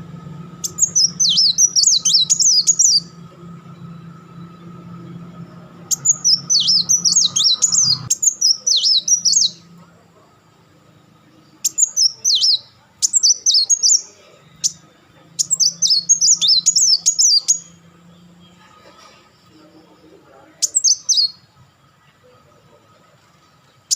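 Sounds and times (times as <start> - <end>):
sunbird singing rapid chattering runs: 0.0 - 23.9.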